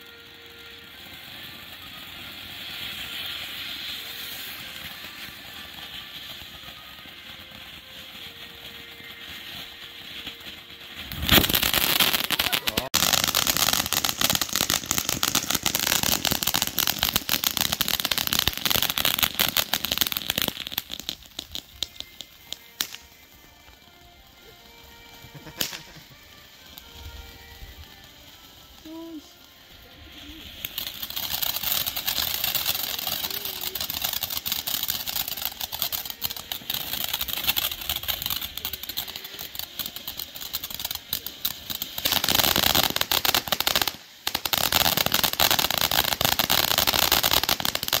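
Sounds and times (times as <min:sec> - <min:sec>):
firework crackling and popping: 0:00.0 - 0:48.0
firework fountain hissing: 0:00.0 - 0:48.0.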